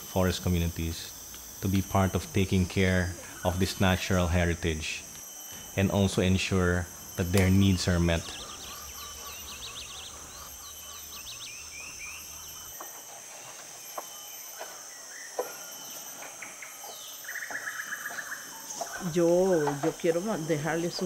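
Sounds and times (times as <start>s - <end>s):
birds chirping: 0.0s - 21.0s
high insect drone: 0.0s - 21.0s.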